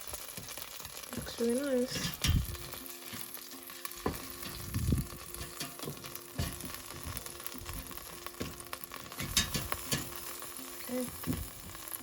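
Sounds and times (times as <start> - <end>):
ribs sizzling in air fryer: 0.0 - 12.0.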